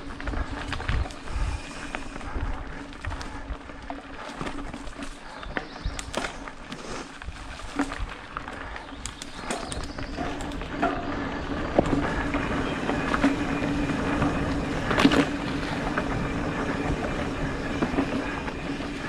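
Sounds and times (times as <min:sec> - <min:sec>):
bike clicks and rattles: 0:00.0 - 0:19.0
bike tyre noise on dirt: 0:00.0 - 0:19.0.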